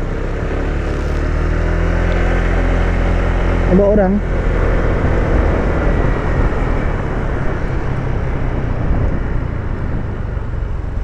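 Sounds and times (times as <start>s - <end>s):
scooter engine and road drone: 0.0s - 11.0s
wind on microphone: 1.4s - 11.0s.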